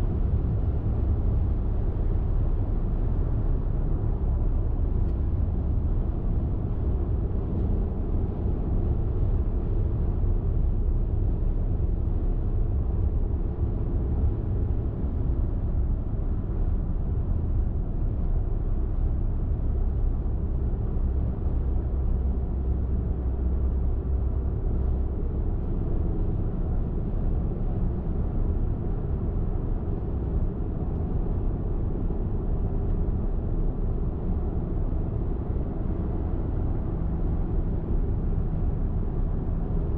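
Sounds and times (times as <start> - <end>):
car tyre and engine rumble: 0.0 - 39.9.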